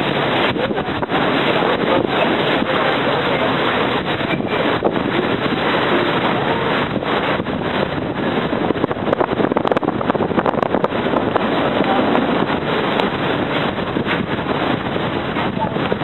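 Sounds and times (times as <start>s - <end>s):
boat rushing through water: 0.0s - 16.0s
wind buffeting microphone: 0.0s - 16.0s.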